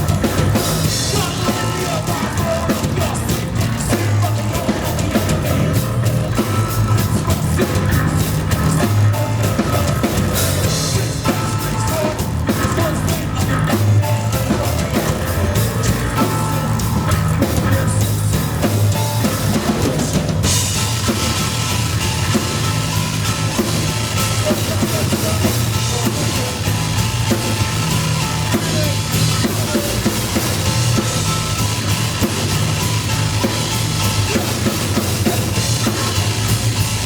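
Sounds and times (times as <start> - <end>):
bass guitar: 0.0 - 37.0
drum kit: 0.0 - 37.0
live rock band playing: 0.0 - 37.0.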